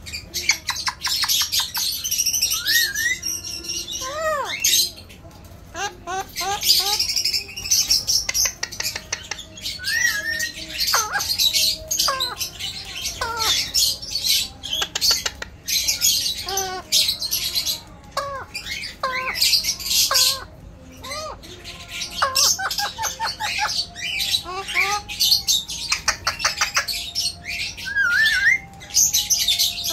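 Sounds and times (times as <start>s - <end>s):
parakeet screeching and whistling: 0.0s - 5.0s, 5.8s - 8.9s, 9.6s - 29.9s.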